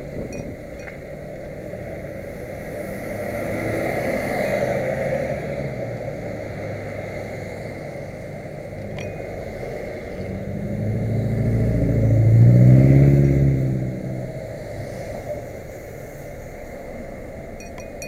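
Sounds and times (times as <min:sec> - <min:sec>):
car passing close by: 0:01.9 - 0:17.4.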